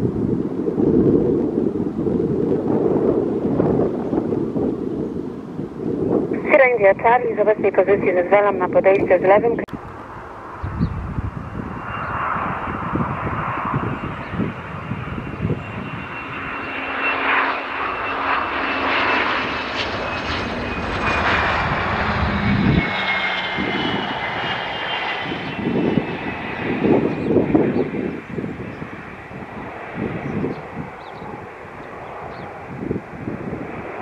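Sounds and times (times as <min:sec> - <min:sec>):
jet airliner engine whine: 0:00.0 - 0:34.0.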